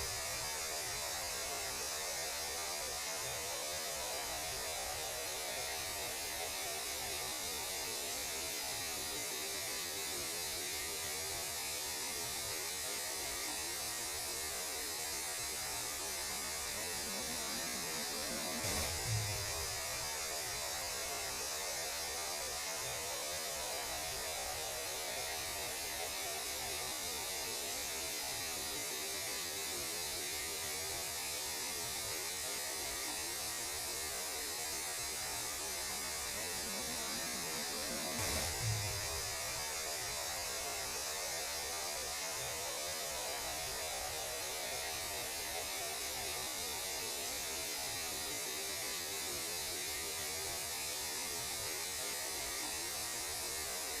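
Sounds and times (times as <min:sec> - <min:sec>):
steady radio noise hiss: 0:00.0 - 0:54.0.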